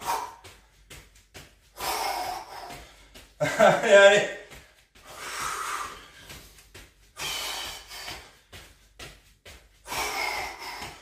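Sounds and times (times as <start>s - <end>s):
man breathing hard: 0.0s - 3.7s, 4.4s - 11.0s.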